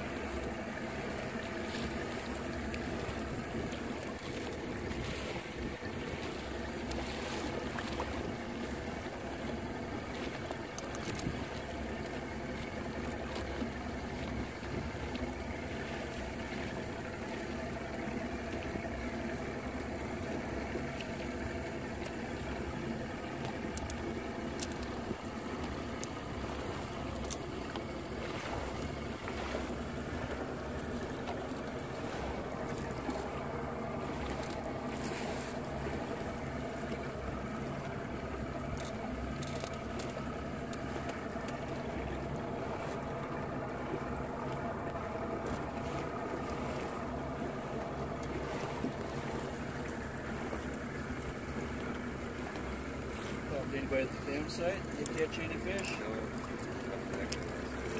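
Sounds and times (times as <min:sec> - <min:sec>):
boat motor running: 0:00.0 - 0:57.9
water rushing past hull: 0:00.0 - 0:57.9
wind: 0:00.0 - 0:57.9.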